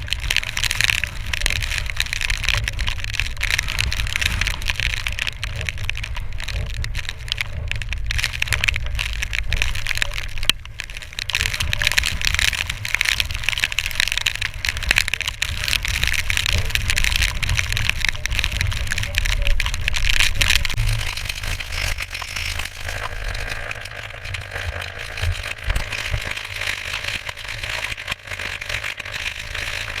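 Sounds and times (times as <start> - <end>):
low rumble: 0.0 - 27.4
small crackles and taps: 0.0 - 30.0.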